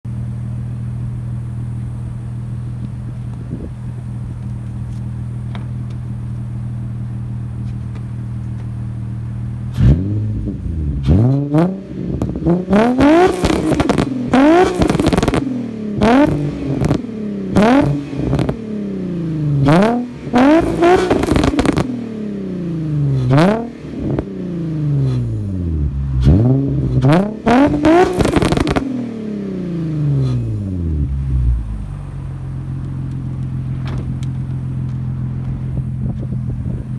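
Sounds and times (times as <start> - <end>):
car engine revving and idling: 0.1 - 36.9.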